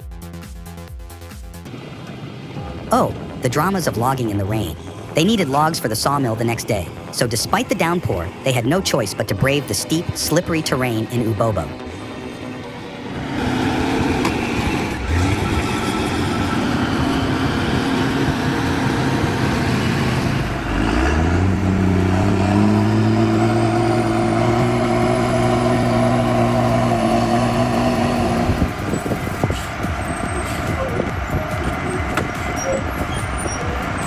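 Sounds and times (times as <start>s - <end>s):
heavy vehicle engine under load: 1.7s - 34.0s.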